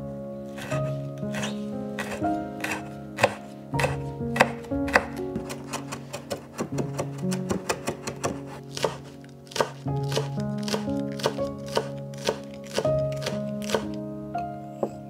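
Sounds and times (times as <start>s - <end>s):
background music: 0.0s - 15.0s
knife chopping on wooden board: 0.6s - 13.9s.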